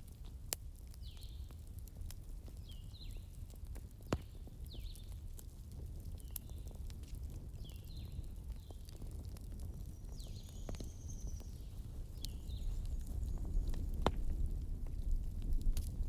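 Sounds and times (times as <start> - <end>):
low rumble of flames: 0.0 - 16.0
wood crackling and popping: 0.0 - 16.0.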